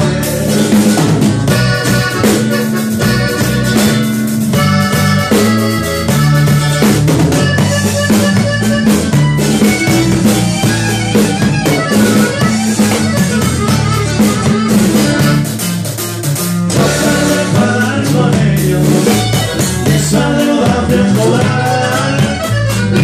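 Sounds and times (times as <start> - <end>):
button accordion melody: 0.0 - 23.0
low bass notes: 0.0 - 23.0
strummed acoustic guitar: 0.0 - 23.0.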